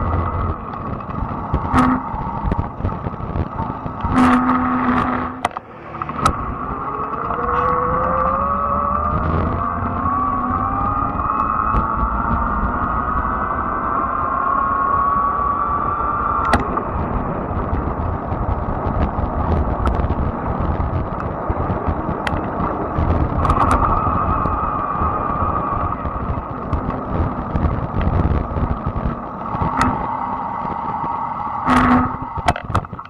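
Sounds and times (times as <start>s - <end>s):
sharp clicks and rattles: 0.0s - 13.2s, 16.4s - 33.0s
electric bike motor whine: 0.0s - 33.0s
wind and tyre rumble: 0.0s - 33.0s.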